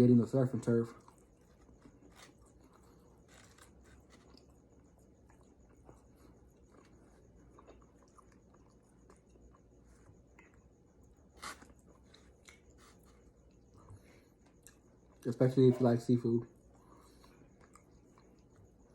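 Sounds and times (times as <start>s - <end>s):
faint chewing: 0.3s - 18.9s.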